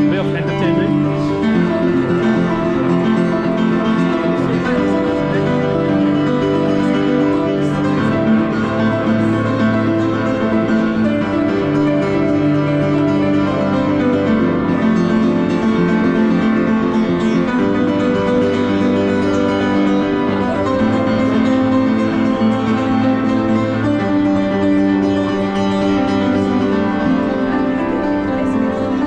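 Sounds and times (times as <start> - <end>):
acoustic piano playing: 0.0 - 29.0.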